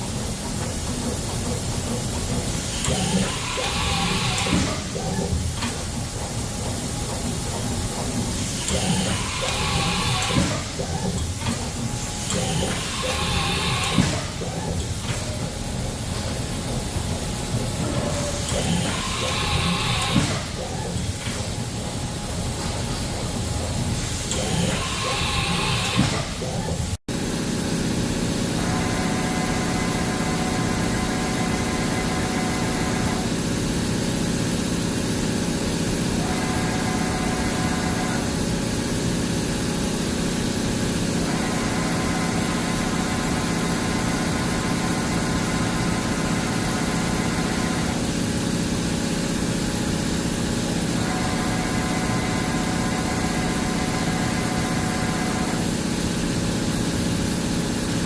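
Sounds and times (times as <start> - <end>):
high machine whine: 0.0 - 58.0.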